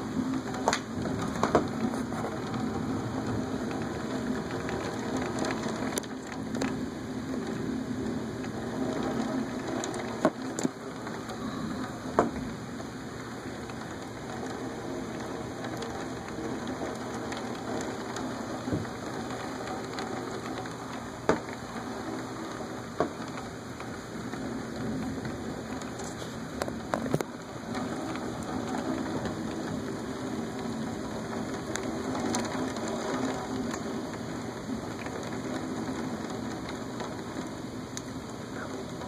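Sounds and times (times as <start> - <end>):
steady rain hissing: 0.0 - 39.0.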